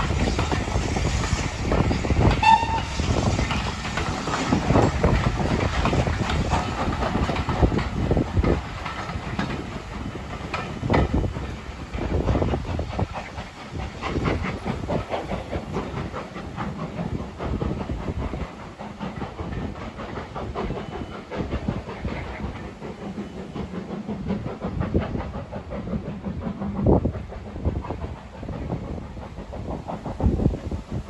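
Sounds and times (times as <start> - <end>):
steam hissing: 0.0 - 31.0
train wheels clattering on track: 0.0 - 31.0.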